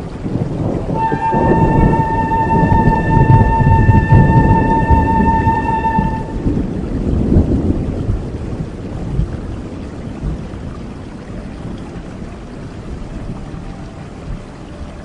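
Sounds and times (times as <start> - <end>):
low rumble of thunder: 0.0 - 15.0
steady rain: 0.0 - 15.0.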